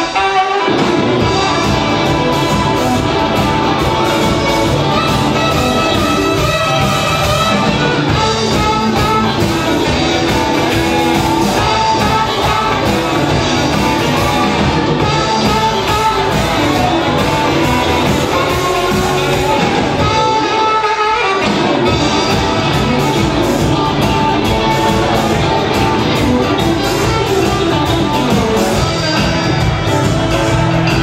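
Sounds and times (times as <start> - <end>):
bass guitar: 0.0 - 31.0
electric guitars: 0.0 - 31.0
saxophone: 0.0 - 31.0
drum beat: 0.9 - 20.4, 21.6 - 31.0.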